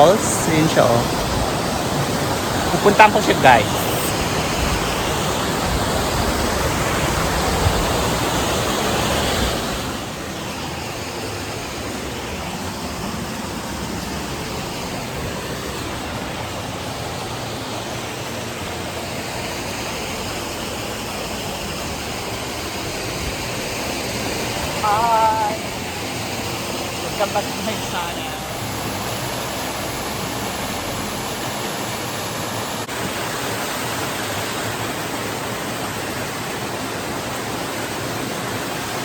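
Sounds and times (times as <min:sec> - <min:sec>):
waterfall pouring: 0:00.0 - 0:39.0.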